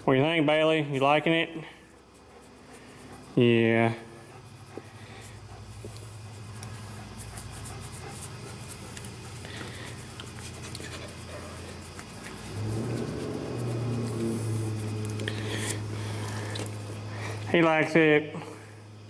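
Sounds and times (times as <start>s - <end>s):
dog panting: 1.1s - 17.7s
low hum: 2.1s - 17.5s.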